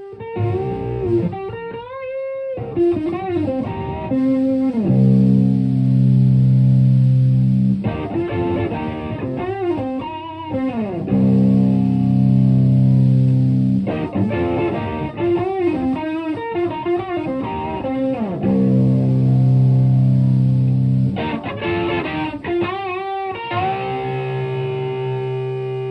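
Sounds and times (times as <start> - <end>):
overdriven electric guitar: 0.0 - 25.9.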